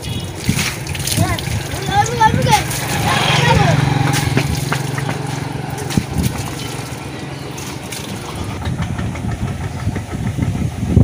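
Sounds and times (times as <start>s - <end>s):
tractor engine idling: 0.0s - 10.8s
noisy background: 0.0s - 11.0s.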